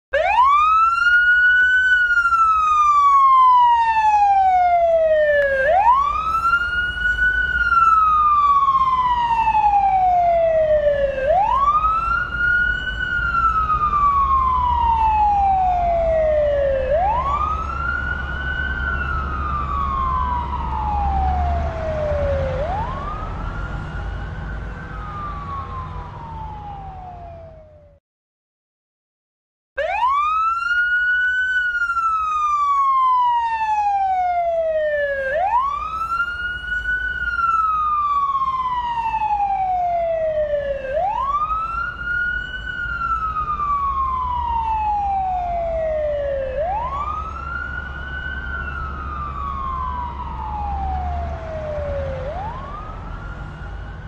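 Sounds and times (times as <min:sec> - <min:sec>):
siren wailing: 0:00.1 - 0:28.0, 0:29.8 - 0:54.0.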